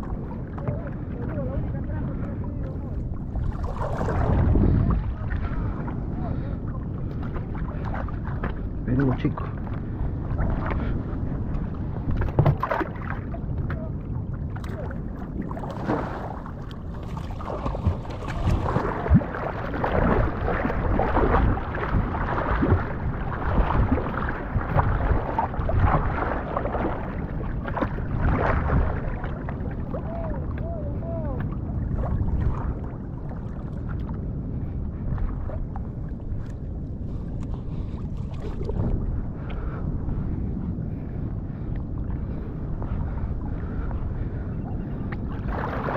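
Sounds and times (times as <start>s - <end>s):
seawater sloshing and splashing: 0.0s - 34.2s, 35.0s - 39.7s, 45.2s - 45.9s
low rumble: 0.0s - 45.9s.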